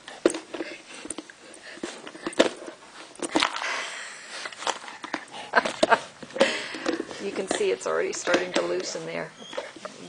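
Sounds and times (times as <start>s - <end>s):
dog gnawing plastic toy: 0.0s - 10.0s
dog sniffing: 0.3s - 3.1s, 3.7s - 10.0s.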